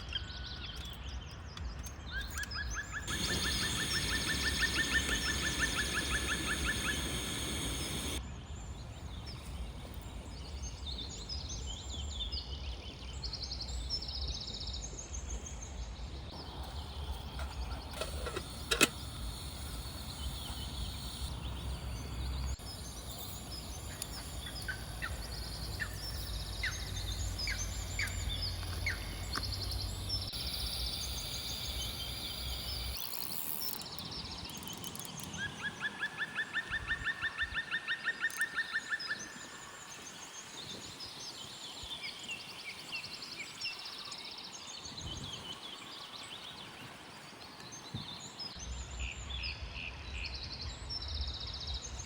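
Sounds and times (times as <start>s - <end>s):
small birds chirping: 0.0s - 14.9s, 15.5s - 49.3s.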